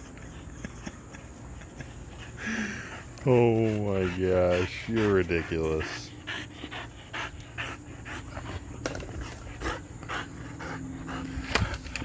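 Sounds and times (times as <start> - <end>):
dog panting fast: 0.0 - 12.0.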